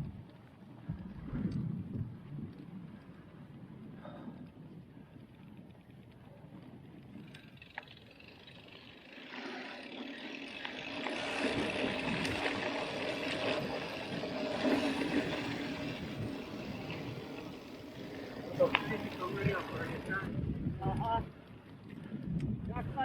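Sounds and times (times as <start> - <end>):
bike tyres crunching on dirt: 0.0 - 23.0
bike frame and chain rattle: 2.2 - 23.0.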